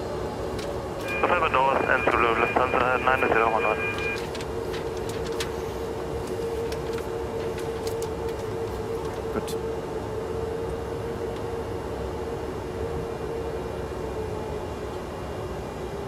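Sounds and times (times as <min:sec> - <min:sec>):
air conditioning: 0:00.0 - 0:16.0
constant mid-pitched whine: 0:00.0 - 0:16.0
jet engines idling: 0:00.0 - 0:16.0.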